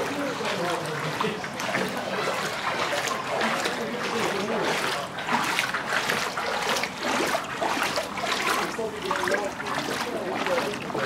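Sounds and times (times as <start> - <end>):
floodwater splashing and trickling: 0.0 - 11.0.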